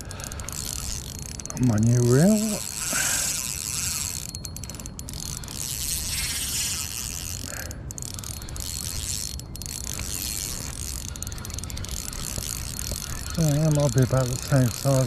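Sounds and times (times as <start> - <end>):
fishing reel cranking: 0.0 - 15.0.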